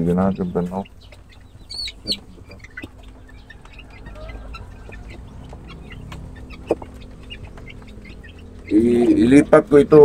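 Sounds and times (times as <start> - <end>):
beaks pecking plastic feeder: 0.0 - 10.0
chicks peeping and clucking: 0.0 - 10.0.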